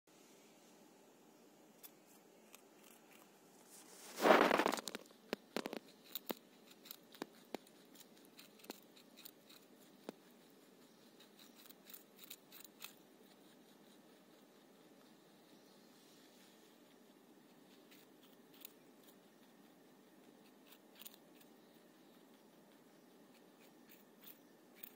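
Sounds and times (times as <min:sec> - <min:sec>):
rabbit crunching carrot: 0:01.6 - 0:24.9.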